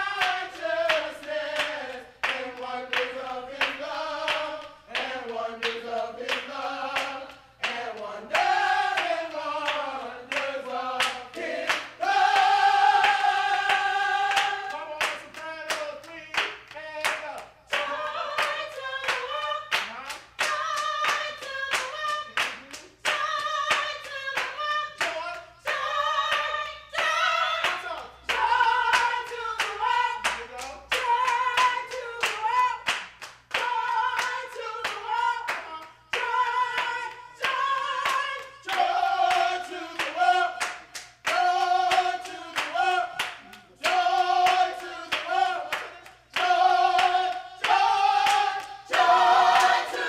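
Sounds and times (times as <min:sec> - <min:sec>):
choir singing a carol: 0:00.0 - 0:15.0, 0:17.7 - 0:19.8, 0:20.5 - 0:22.4, 0:23.0 - 0:30.3, 0:33.6 - 0:50.0
hand clapping: 0:00.0 - 0:50.0.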